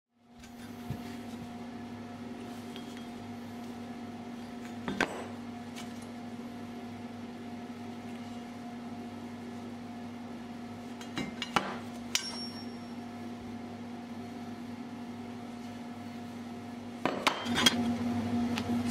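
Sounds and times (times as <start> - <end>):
steady hum: 0.2 - 18.9.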